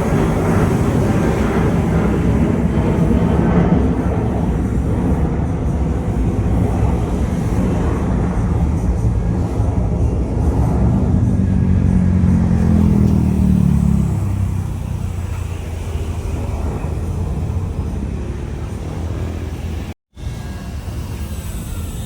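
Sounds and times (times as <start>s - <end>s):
jet engines passing close by: 0.0s - 22.0s.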